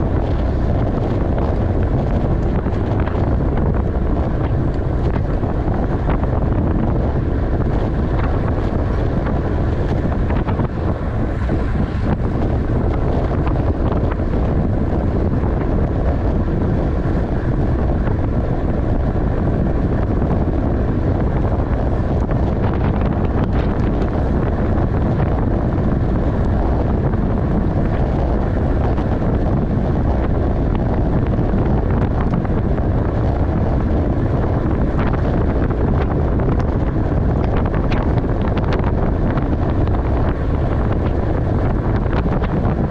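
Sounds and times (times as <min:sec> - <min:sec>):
wind rushing on microphone: 0:00.0 - 0:42.9.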